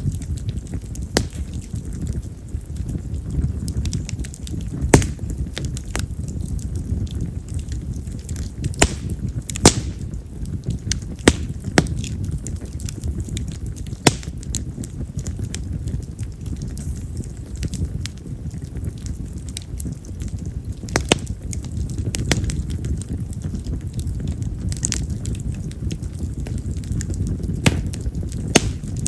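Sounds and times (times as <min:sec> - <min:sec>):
fire flame rumble: 0:00.0 - 0:29.0
loud pops from burning wood: 0:00.0 - 0:29.0
wood fire crackling: 0:00.0 - 0:29.0.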